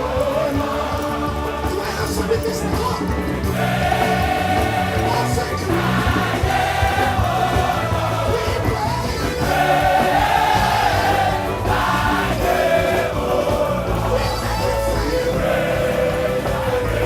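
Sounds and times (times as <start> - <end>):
bass accompaniment: 0.0 - 17.0
choir singing gospel: 0.0 - 17.0.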